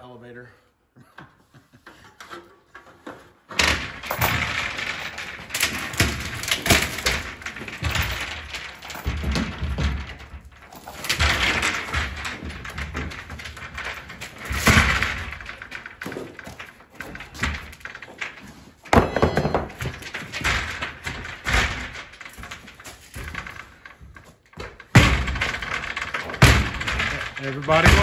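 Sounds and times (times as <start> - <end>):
wood panelling pried loose: 1.8 - 28.0.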